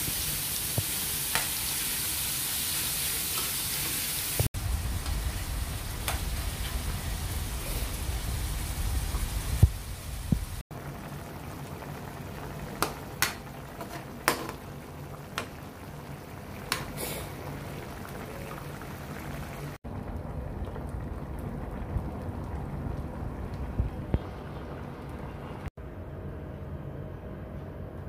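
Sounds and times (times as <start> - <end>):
meat simmering in a wok: 0.1 - 25.5.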